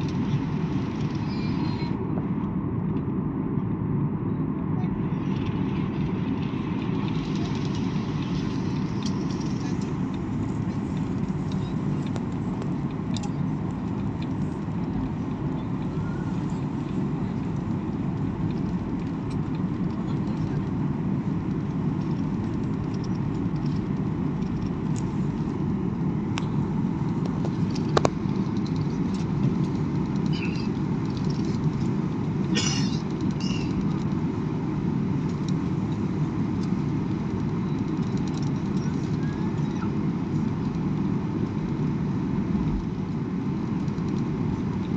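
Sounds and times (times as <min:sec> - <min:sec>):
jet engine rumble in cabin: 0:00.0 - 0:44.9.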